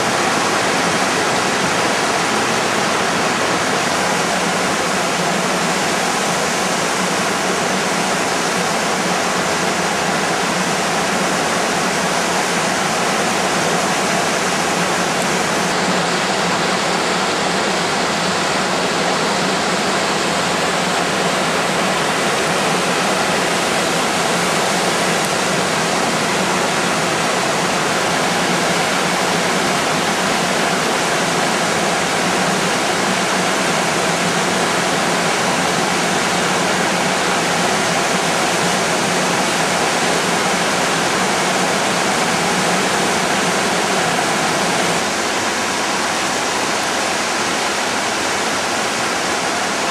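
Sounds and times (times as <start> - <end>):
river rushing over stones: 0.0 - 49.9
waterfall pouring into pool: 0.0 - 49.9.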